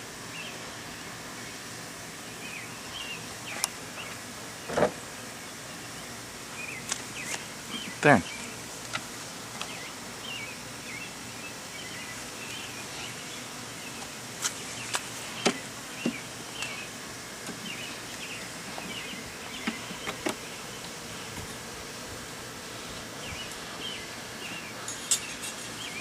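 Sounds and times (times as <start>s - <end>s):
honeybees buzzing: 0.0s - 26.0s
steady hiss: 0.0s - 26.0s.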